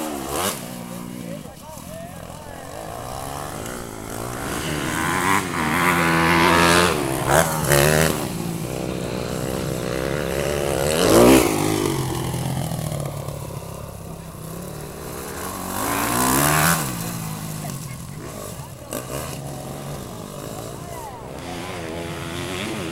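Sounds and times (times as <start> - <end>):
motocross motorcycle engines revving: 0.0 - 22.9.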